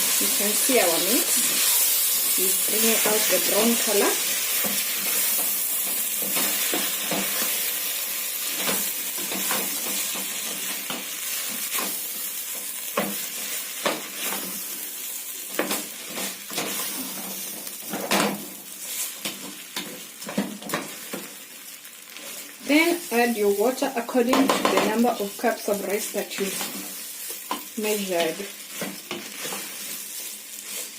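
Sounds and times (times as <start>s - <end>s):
food sizzling in hot oil: 0.0s - 30.9s.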